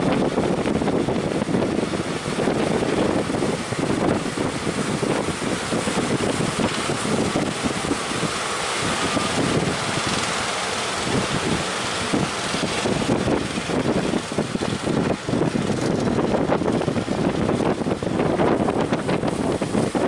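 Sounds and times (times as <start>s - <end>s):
waves: 0.0s - 20.0s
wind buffeting microphone: 0.0s - 20.0s
wind rushing: 0.0s - 20.0s.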